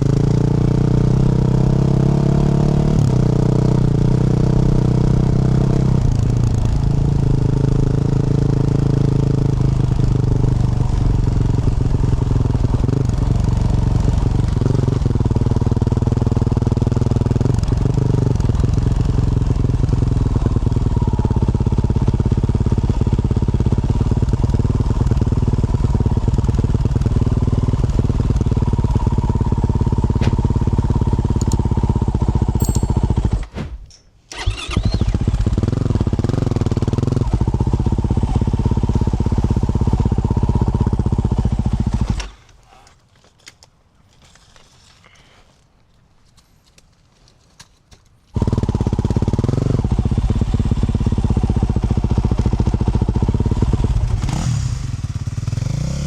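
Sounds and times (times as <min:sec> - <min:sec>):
dirt bike engine running: 0:00.0 - 0:33.5, 0:34.3 - 0:42.2, 0:48.3 - 0:56.0.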